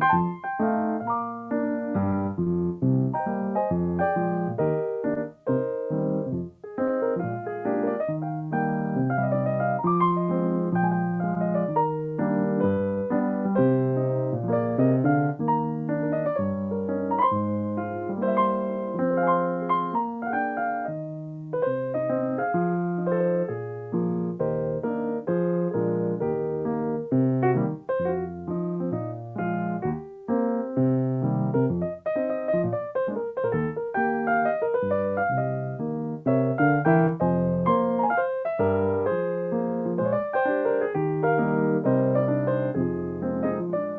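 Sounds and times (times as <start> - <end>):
solo piano playing: 0.0 - 43.9.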